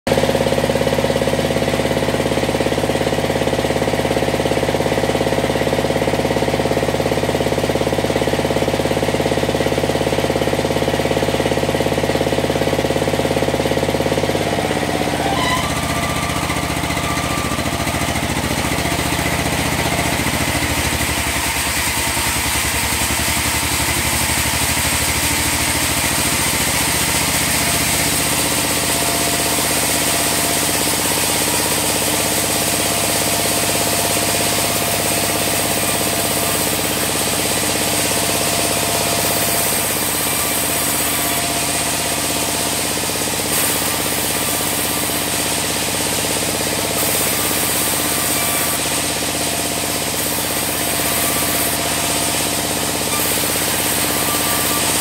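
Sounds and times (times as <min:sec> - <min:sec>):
sawmill bandsaw running: 0:00.1 - 0:55.0.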